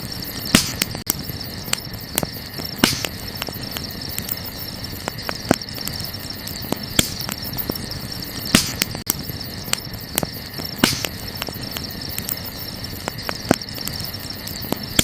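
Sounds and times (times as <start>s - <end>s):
burning wood crackling: 0.0s - 15.0s
crickets chirring: 0.0s - 15.0s.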